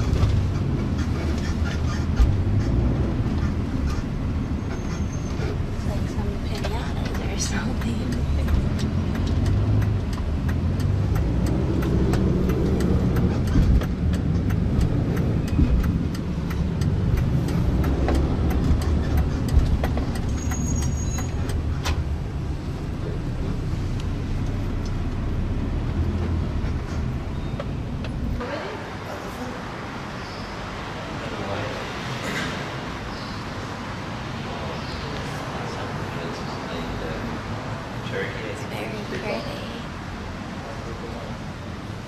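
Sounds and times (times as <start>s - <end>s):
low rumble of road traffic: 0.0s - 42.0s.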